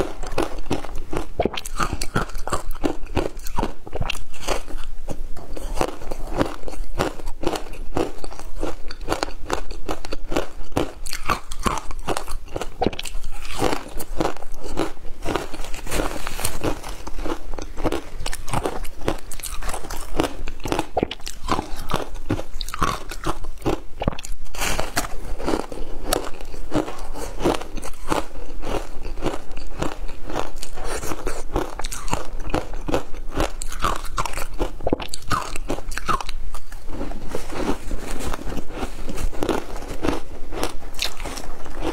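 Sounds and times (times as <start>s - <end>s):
crunching frozen ice: 5.5s - 41.9s.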